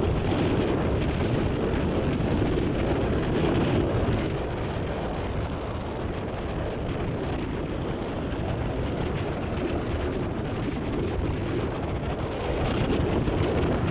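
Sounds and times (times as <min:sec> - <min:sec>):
wind blowing across microphone: 0:00.0 - 0:13.9.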